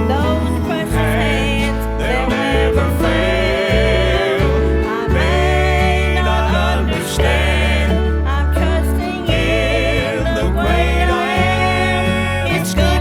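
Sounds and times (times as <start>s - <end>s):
country-style instrumental backing: 0.0s - 13.0s
woman singing gospel song: 0.0s - 13.0s.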